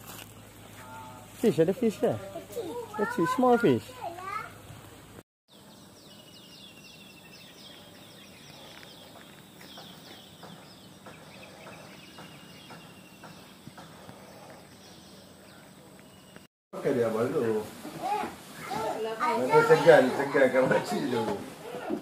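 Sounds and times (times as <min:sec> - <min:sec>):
birds chirping: 0:00.4 - 0:17.6, 0:18.4 - 0:22.0.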